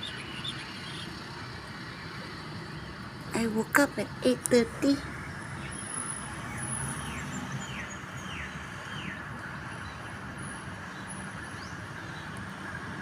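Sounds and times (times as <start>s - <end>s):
steady outdoor rumble: 0.0s - 13.0s.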